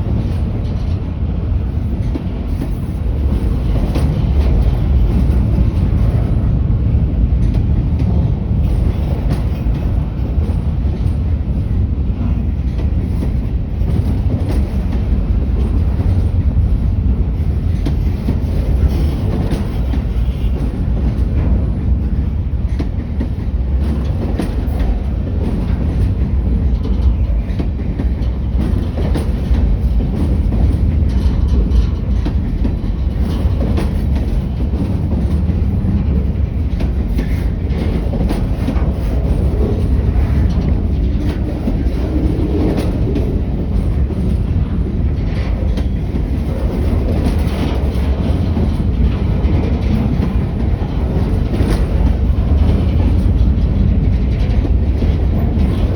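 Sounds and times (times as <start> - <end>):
train rumbling past: 0.0 - 55.9
wheels clicking over rail joints: 0.0 - 55.9.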